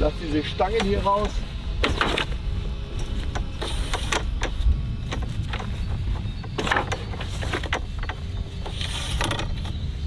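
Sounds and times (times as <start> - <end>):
steady low rumble: 0.0 - 10.0
poles clicking and clacking: 0.4 - 9.8
poles clattering: 0.5 - 9.9.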